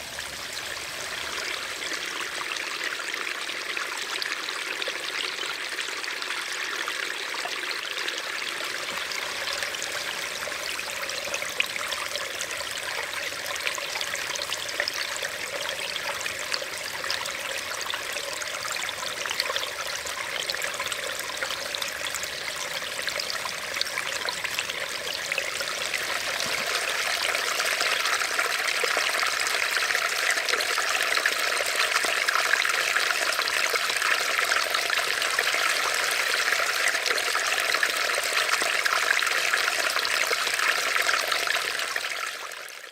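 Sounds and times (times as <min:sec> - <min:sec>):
stream trickling: 0:00.0 - 0:42.9.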